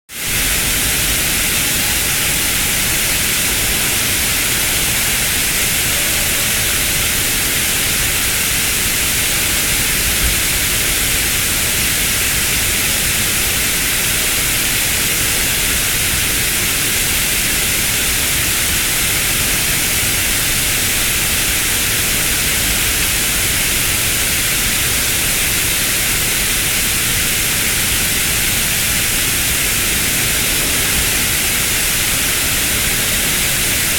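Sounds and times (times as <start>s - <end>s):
water cascading down fountain: 0.1s - 33.9s.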